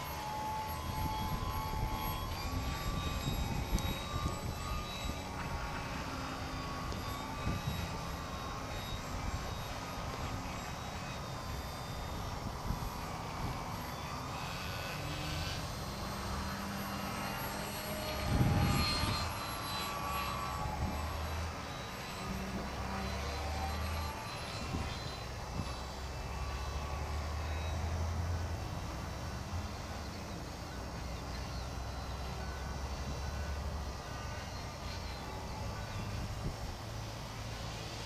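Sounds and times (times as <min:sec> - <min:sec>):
rc airplane motor whine: 0:00.0 - 0:38.0.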